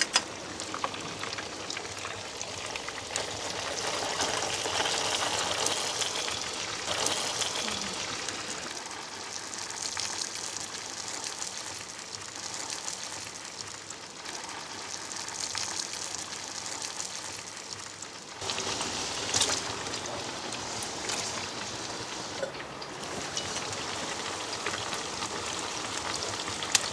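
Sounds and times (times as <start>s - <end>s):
fries sizzling in oil: 0.0s - 26.9s.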